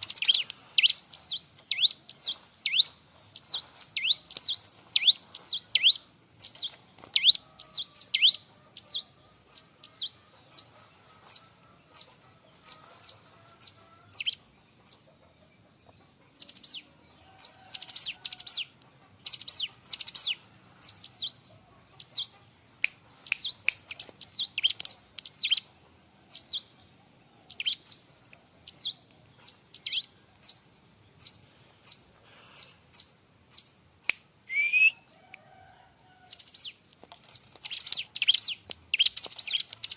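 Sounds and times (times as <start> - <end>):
bird chirping high and sharp: 0.0 - 15.0, 16.4 - 16.8, 17.4 - 21.4, 22.0 - 22.4, 23.2 - 25.7, 26.3 - 26.7, 27.5 - 30.6, 32.6 - 35.1, 36.3 - 39.9.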